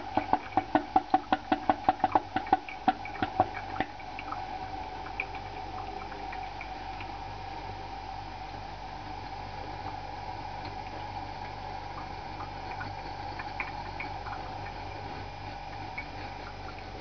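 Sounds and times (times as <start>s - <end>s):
coffee maker gurgling pops: 0.0s - 7.4s, 9.1s - 17.0s
coffee maker steady hiss: 0.0s - 17.0s.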